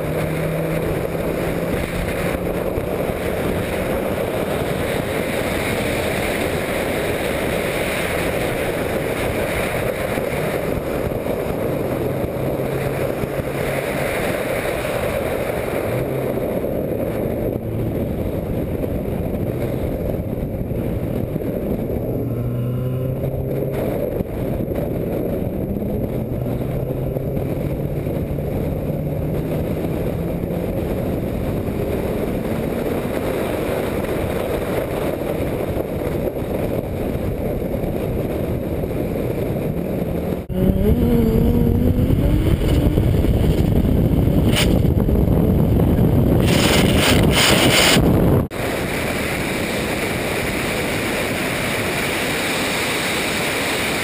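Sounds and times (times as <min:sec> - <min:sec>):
race car engine accelerating: 0:00.0 - 0:35.1, 0:38.1 - 0:48.1
wind noise on microphone: 0:00.0 - 0:54.0.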